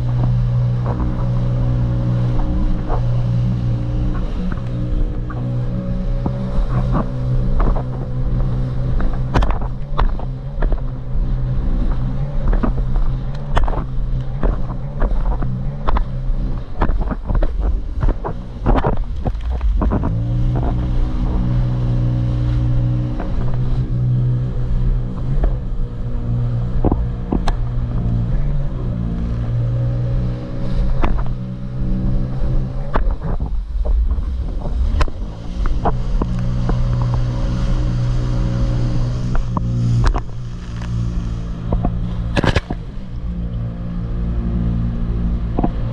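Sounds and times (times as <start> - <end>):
jet ski engine running: 0.0 - 45.9
wind buffeting microphone: 0.0 - 45.9.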